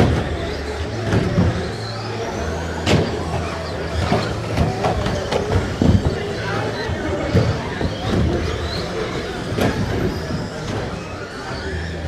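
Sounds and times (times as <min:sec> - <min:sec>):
toy truck motors whining: 0:00.0 - 0:12.0.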